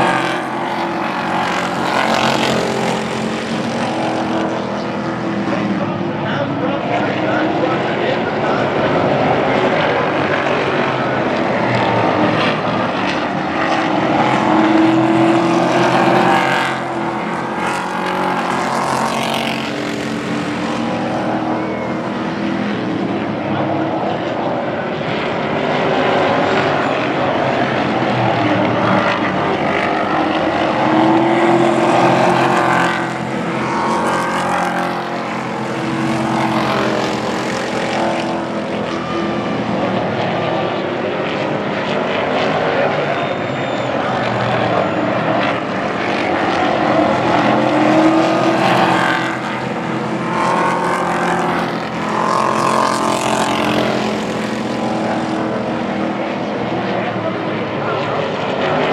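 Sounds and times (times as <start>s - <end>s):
race truck engines passing: 0.0s - 58.9s.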